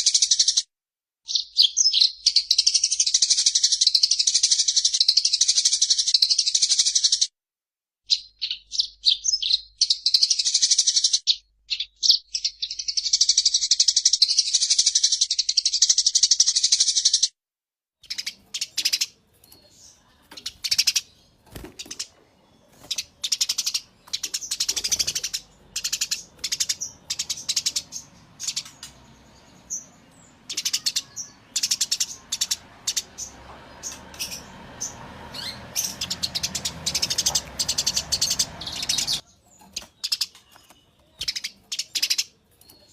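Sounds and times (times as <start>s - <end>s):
sparrows chattering: 0.0s - 0.6s, 1.3s - 7.3s, 8.1s - 17.3s, 18.0s - 42.9s.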